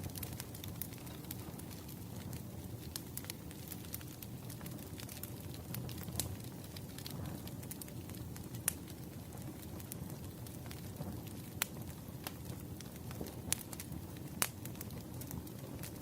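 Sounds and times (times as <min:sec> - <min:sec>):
firewood crackling and popping: 0:00.0 - 0:16.0
low fire rumble: 0:00.0 - 0:16.0.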